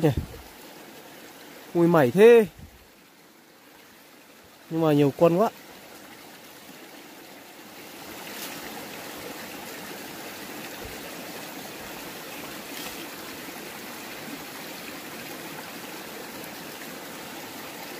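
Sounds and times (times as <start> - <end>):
stream flowing over rocks: 0.0 - 17.9.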